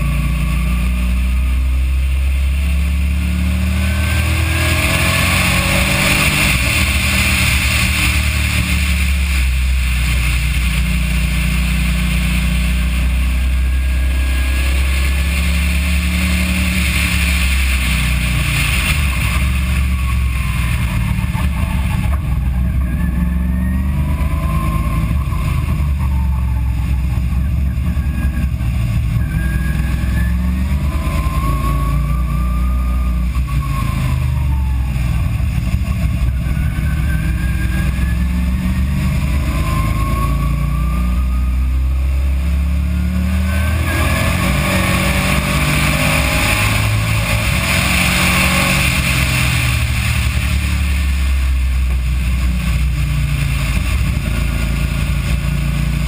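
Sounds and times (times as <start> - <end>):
faint whine: 0.0 - 56.0
race car engine drone: 0.0 - 56.0
wind and road noise hiss: 0.0 - 56.0.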